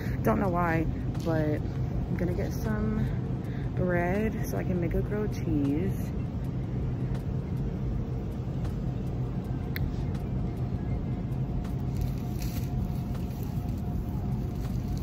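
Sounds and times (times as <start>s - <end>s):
low rumble with faint hum: 0.0s - 15.0s.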